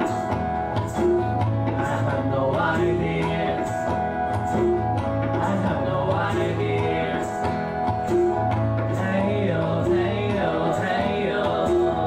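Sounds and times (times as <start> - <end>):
person singing: 0.0 - 12.0
strummed acoustic guitar: 0.0 - 12.0
tabla: 0.0 - 12.0.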